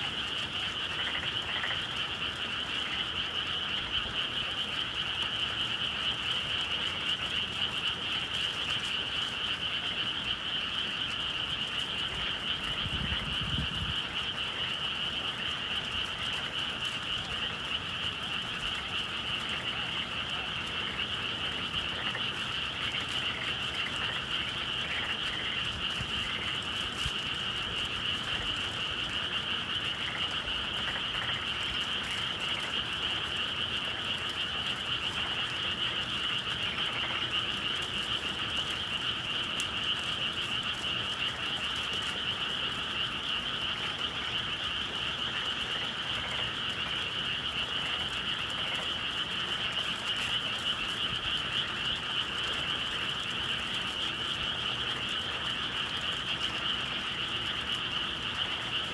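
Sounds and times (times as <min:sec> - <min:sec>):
frog chorus: 0:00.0 - 0:58.9.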